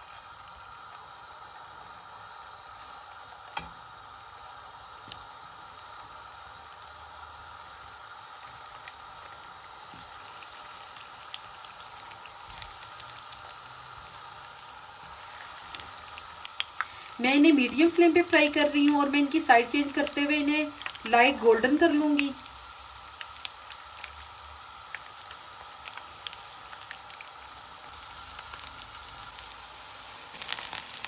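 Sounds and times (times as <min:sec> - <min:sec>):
croquettes sizzling in hot oil: 0:00.0 - 0:31.0.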